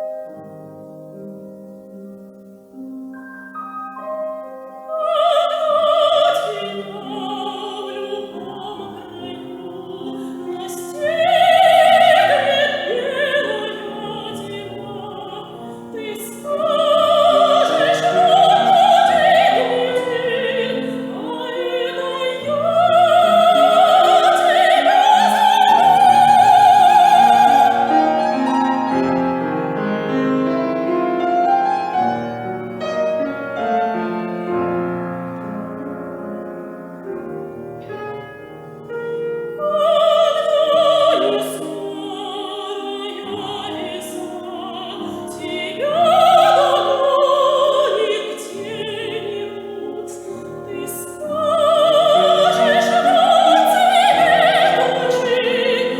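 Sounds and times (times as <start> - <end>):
piano accompaniment: 0.0 - 55.9
soprano singing: 0.0 - 55.9.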